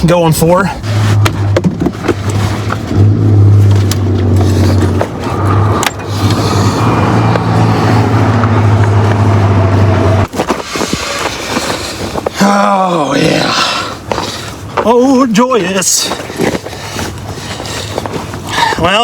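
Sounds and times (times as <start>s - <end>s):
van engine running: 0.0s - 19.0s.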